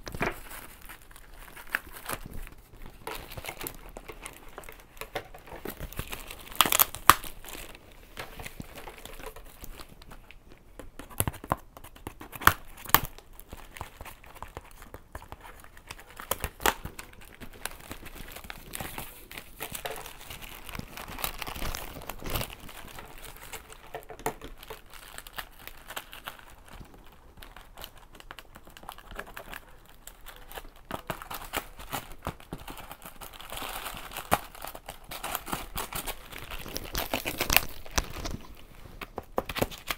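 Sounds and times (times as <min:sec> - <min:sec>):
packaging crinkling and tearing: 0:00.0 - 0:39.9.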